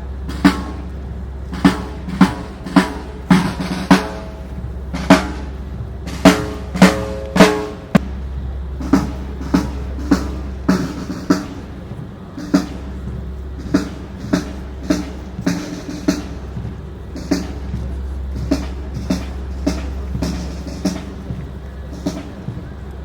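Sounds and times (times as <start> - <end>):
low steady hum: 0.0 - 23.0
marching drums: 0.0 - 23.0.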